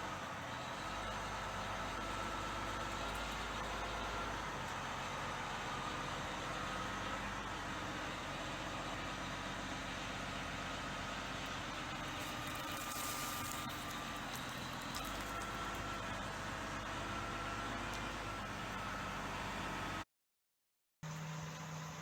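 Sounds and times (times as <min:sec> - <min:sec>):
construction machine diesel engine: 0:00.0 - 0:20.0.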